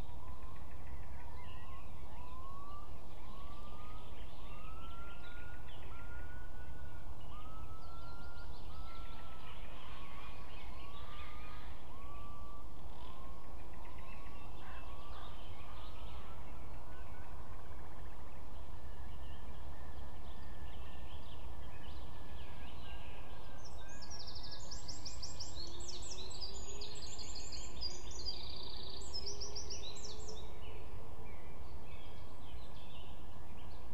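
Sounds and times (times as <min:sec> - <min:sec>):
small bird singing: 0:00.0 - 0:33.9.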